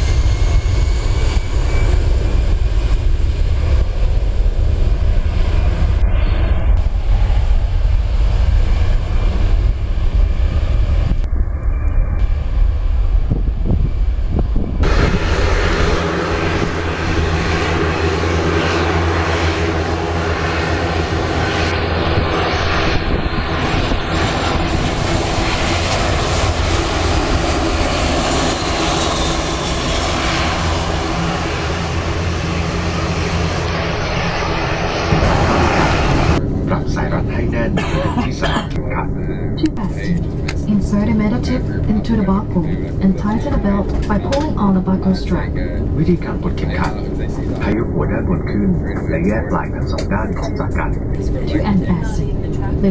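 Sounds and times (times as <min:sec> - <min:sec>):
airliner engine noise: 0:00.0 - 0:52.9.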